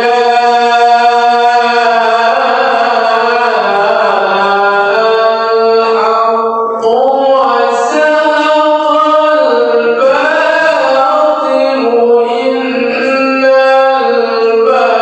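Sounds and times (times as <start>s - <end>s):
man reciting in melodic style: 0.0s - 15.0s.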